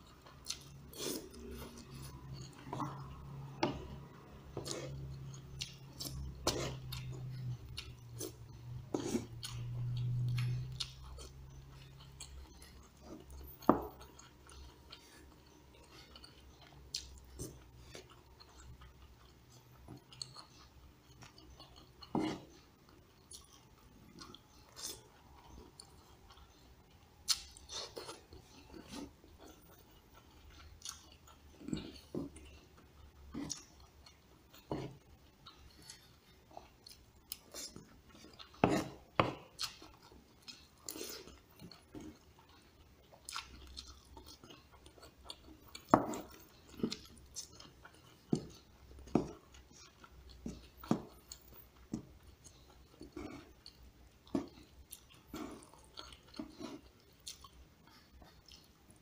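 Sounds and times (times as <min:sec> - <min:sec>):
person chewing and eating: 0:00.0 - 0:59.0.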